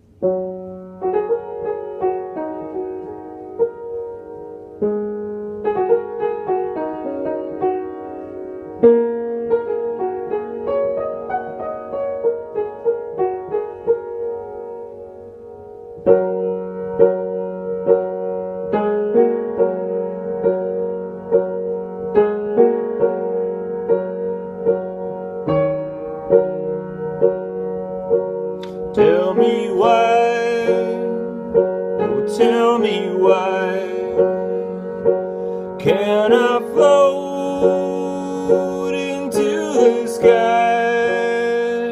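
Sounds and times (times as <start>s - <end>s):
slow piano piece: 0.0s - 41.9s.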